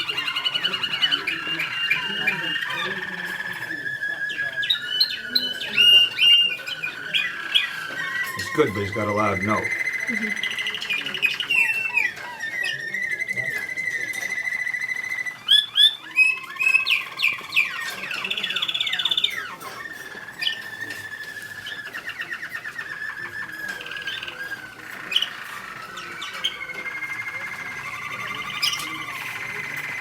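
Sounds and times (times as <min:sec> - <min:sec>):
canary singing: 0:00.0 - 0:30.0
sharp loud bird chips: 0:00.0 - 0:30.0.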